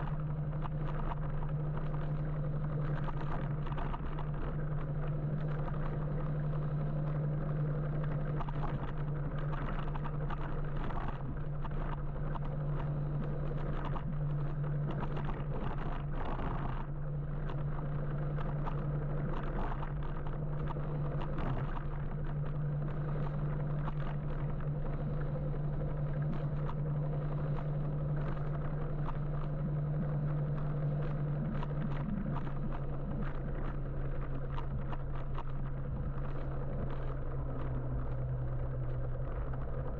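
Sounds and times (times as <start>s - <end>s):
electric motor hum: 0.0s - 39.9s.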